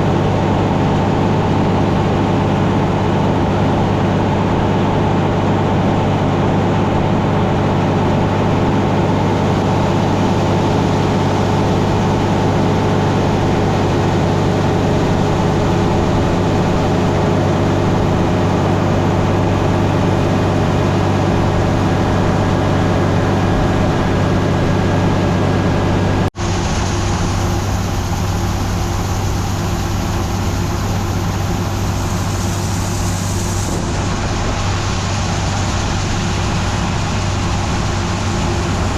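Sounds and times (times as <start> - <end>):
engine with hiss: 0.0 - 38.9
heavy machinery engine running: 0.0 - 38.9.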